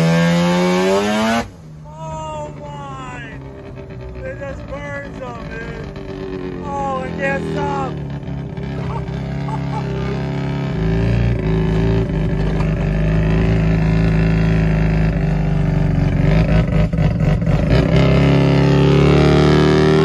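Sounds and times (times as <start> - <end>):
old vehicle engine running: 1.6 - 19.2.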